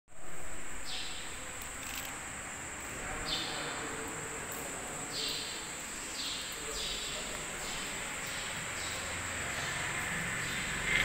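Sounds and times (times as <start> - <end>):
insects droning: 0.1 - 11.0.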